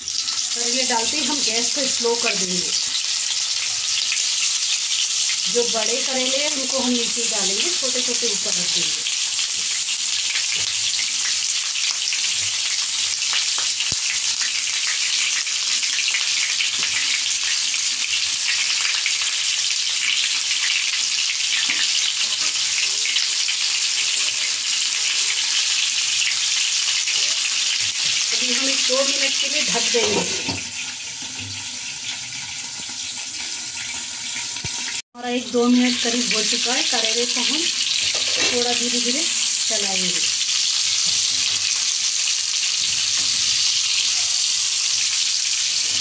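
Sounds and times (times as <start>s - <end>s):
vegetables frying in oil: 0.0s - 46.0s.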